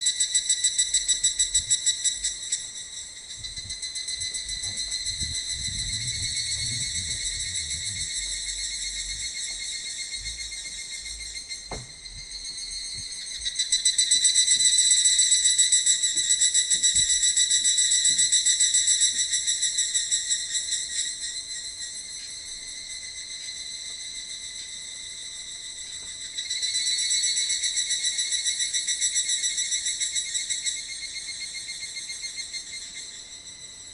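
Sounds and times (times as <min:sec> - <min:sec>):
high pulsing insect trill: 0:00.0 - 0:33.9.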